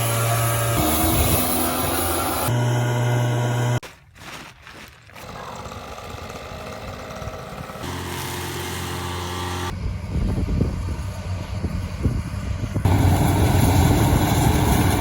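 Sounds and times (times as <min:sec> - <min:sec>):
engine running: 0:00.0 - 0:03.8, 0:05.2 - 0:15.0.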